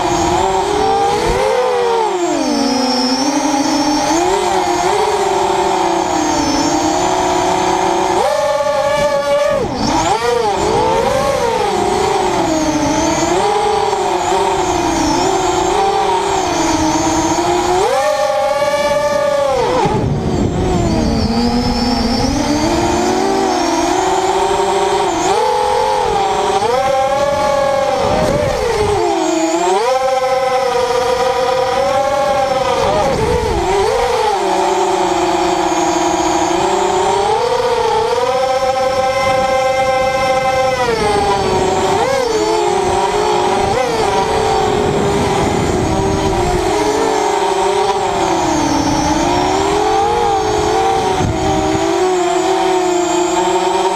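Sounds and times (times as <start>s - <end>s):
quadcopter motors whining: 0.0s - 53.9s.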